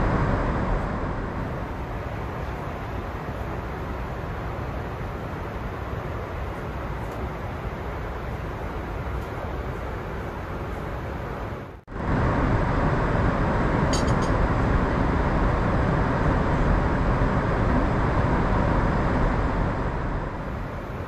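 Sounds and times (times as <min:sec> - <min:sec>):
airplane cabin noise: 0:00.0 - 0:21.0.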